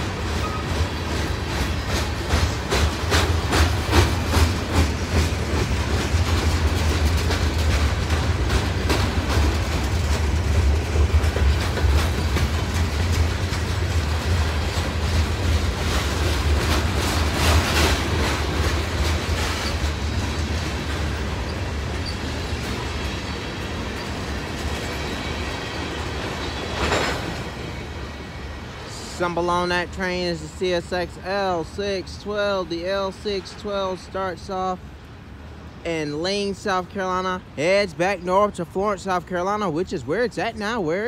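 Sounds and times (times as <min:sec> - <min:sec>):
wheels clicking over rail joints: 0:00.0 - 0:35.1
train wheels rumbling on rail: 0:00.0 - 0:41.0.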